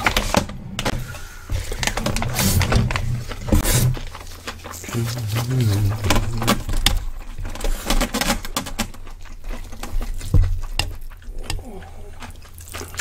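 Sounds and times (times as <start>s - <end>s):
chewing: 1.1s - 13.0s.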